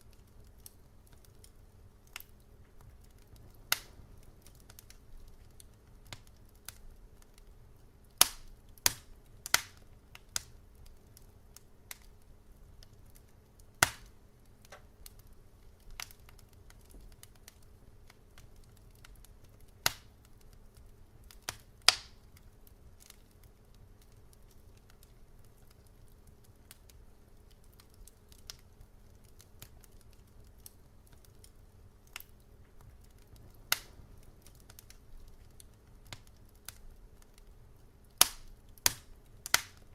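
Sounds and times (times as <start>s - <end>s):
faint low hiss: 0.0s - 39.9s
wood fire crackling and popping: 0.0s - 39.9s.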